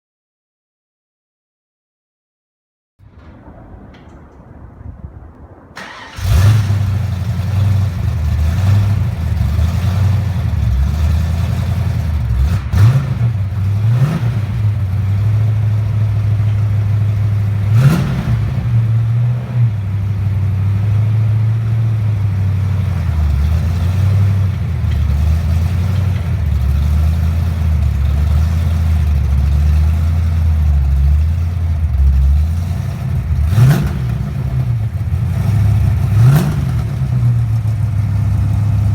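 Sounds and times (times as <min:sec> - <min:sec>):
car engine starting and idling: 0:05.8 - 0:38.9.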